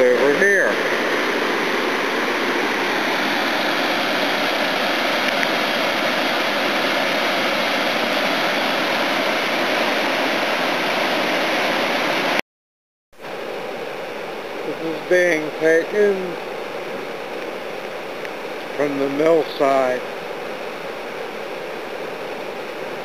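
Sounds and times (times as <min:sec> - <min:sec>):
water rushing over spillway: 0:00.0 - 0:12.4, 0:14.2 - 0:23.0.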